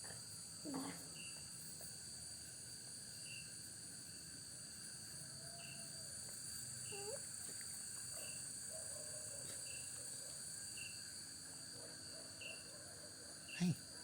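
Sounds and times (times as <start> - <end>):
crickets trilling: 0.0 - 14.0
short cricket chirp: 0.0 - 14.0.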